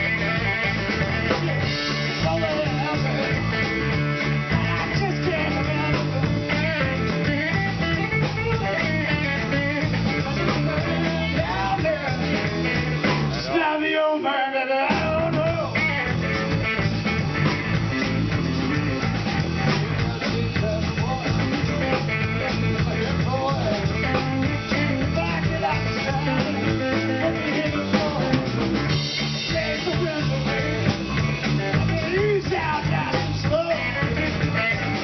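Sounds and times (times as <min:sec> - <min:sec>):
lone guitar with bent notes: 0:00.0 - 0:13.6, 0:14.9 - 0:35.0
live rock band playing: 0:00.0 - 0:35.0.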